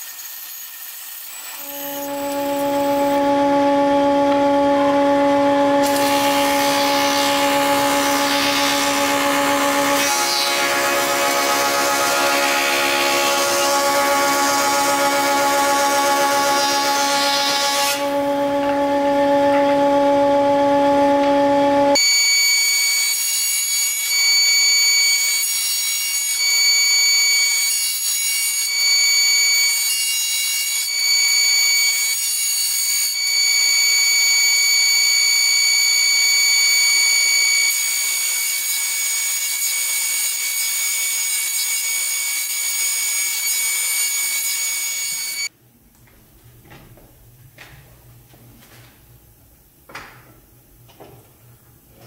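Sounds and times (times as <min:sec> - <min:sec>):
thickness planer whining: 0:00.9 - 0:45.5.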